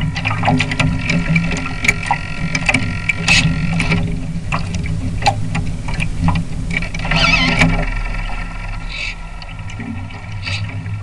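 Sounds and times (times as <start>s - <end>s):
steady low hum: 0.0s - 11.0s
water splashing against hulls: 0.0s - 11.0s.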